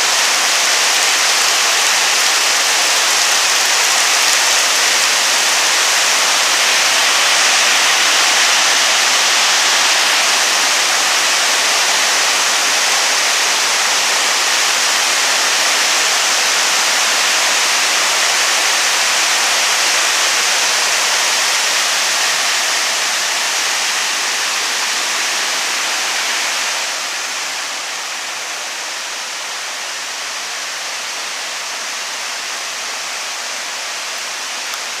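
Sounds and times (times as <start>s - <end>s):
heavy rain on flooded road: 0.0s - 35.0s.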